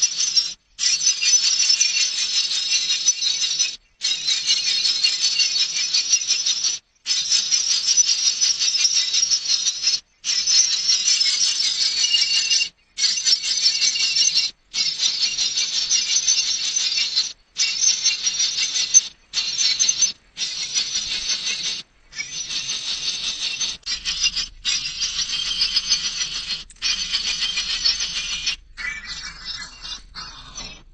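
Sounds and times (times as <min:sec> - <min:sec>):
shrill rapid chirping chorus: 0:00.0 - 0:30.9.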